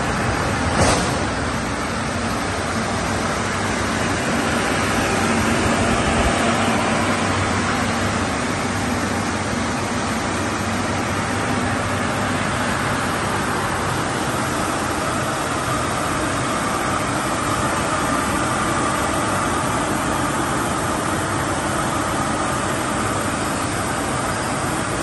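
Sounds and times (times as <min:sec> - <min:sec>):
washing machine whirring rush: 0:00.0 - 0:25.0.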